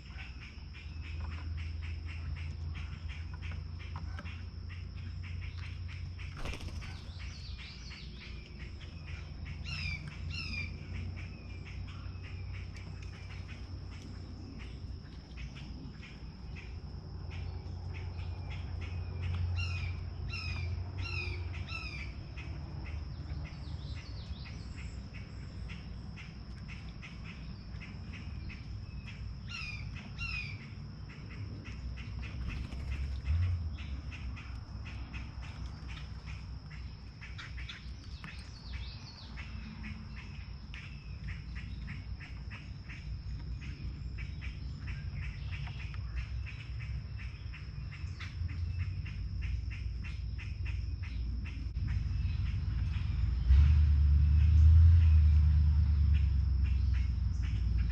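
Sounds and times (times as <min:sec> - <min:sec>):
birds chirping and calling: 0:00.0 - 0:53.6
low background rumble: 0:00.0 - 0:57.9.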